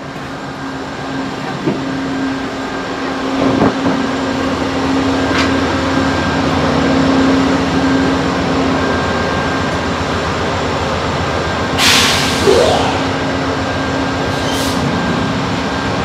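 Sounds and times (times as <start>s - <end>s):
train car rumble and hum: 0.0s - 16.0s.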